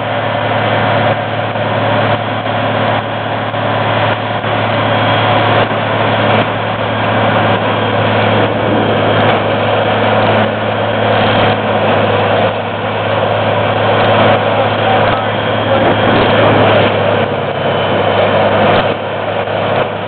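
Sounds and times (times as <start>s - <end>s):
deep diesel engine hum: 0.0s - 20.0s
grinder machine din: 0.0s - 20.0s.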